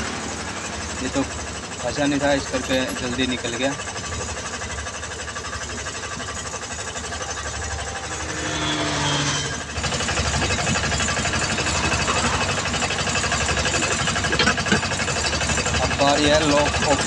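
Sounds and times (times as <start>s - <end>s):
engine running with fast chatter: 0.0s - 17.0s.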